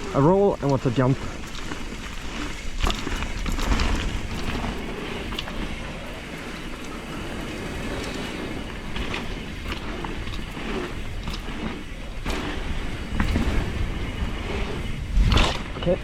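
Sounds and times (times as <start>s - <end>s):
bike clicks and rattles: 0.0s - 16.0s
tyres and wind rumble: 0.0s - 16.0s.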